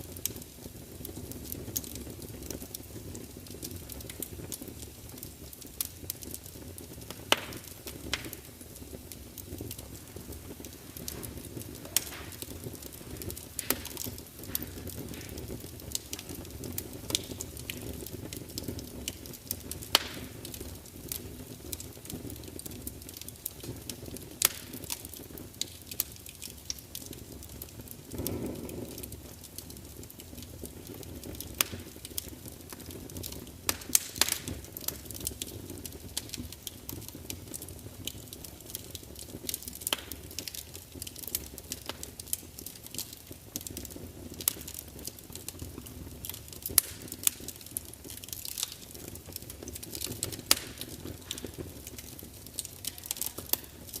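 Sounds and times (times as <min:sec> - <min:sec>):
logs crackling and popping: 0:00.0 - 0:54.0
whoosh of flame: 0:00.0 - 0:54.0
wood fire rumbling: 0:00.0 - 0:54.0.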